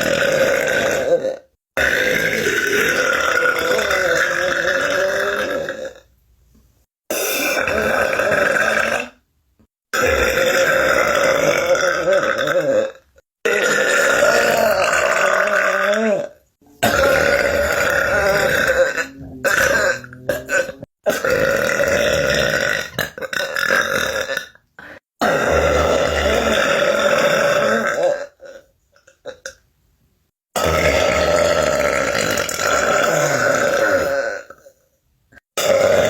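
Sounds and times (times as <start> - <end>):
person burping: 0.0 - 6.1, 7.1 - 9.2, 9.9 - 29.6, 30.5 - 34.7, 35.6 - 36.0.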